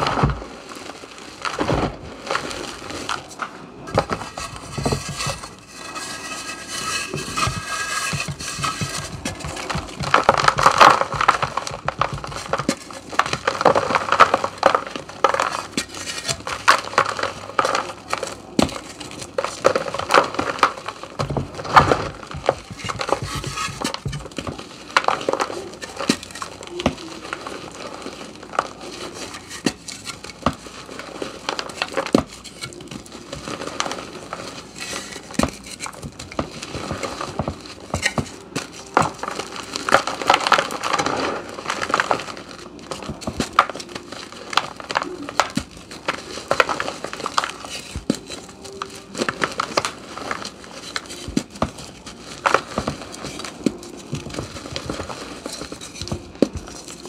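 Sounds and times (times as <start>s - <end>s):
chalk crumbling and crunching: 0.0s - 57.0s.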